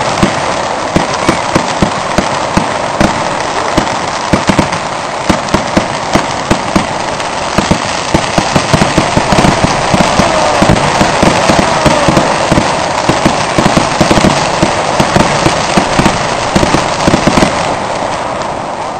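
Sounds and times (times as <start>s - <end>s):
fireworks bangs and pops: 0.0s - 18.9s
fireworks crackling: 0.0s - 18.9s.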